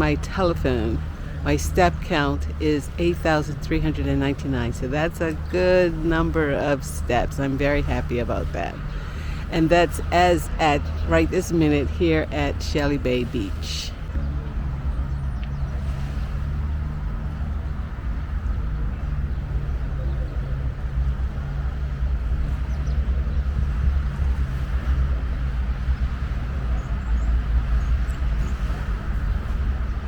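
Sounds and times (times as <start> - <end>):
low rumble of road traffic: 0.0 - 30.0
vehicle engine humming: 0.0 - 30.0.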